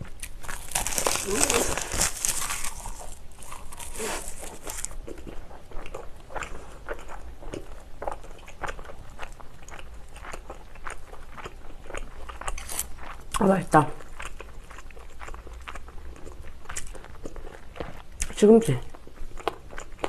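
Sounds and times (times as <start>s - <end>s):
chewing crunchy seaweed rice: 0.0s - 20.0s.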